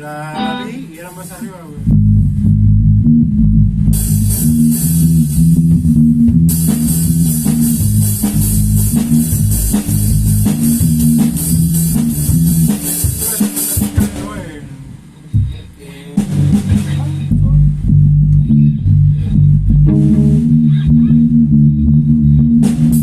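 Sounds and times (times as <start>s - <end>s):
rock band instrumental: 0.0s - 0.9s, 1.8s - 23.0s.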